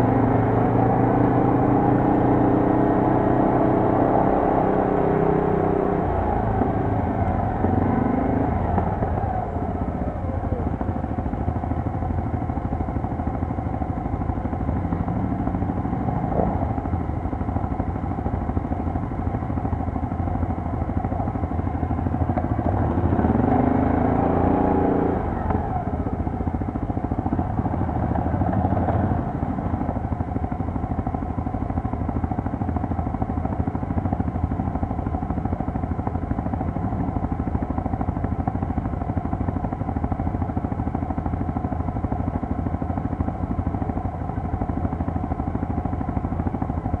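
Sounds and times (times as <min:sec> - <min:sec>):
quad bike engines running: 0:00.0 - 0:47.0.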